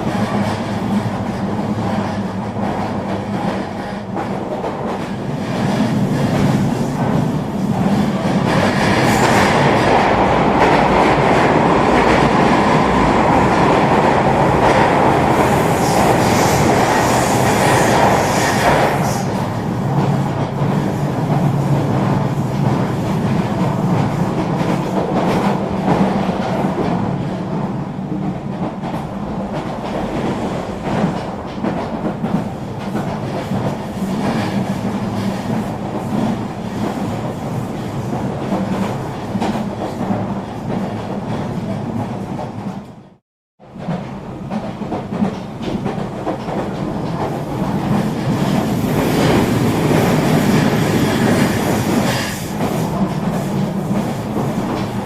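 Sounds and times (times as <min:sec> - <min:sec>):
rail joint clicks: 0:00.0 - 0:55.0
train wheels rumbling on track: 0:00.0 - 0:55.0.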